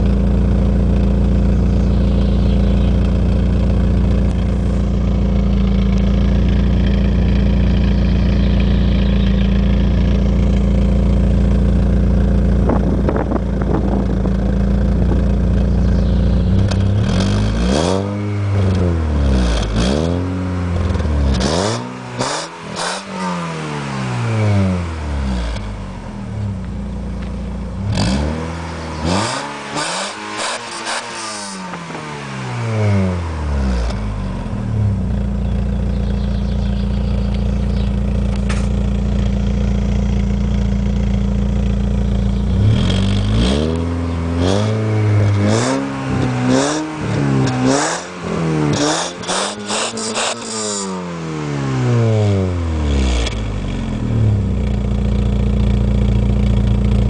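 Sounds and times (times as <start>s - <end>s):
car engine revving at exhaust: 0.0s - 57.0s.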